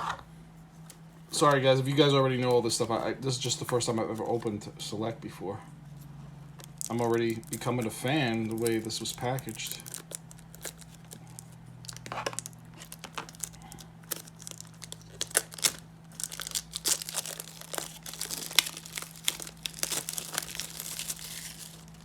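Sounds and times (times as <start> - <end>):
plastic and cardboard crinkling: 0.7 - 5.2, 5.9 - 22.0.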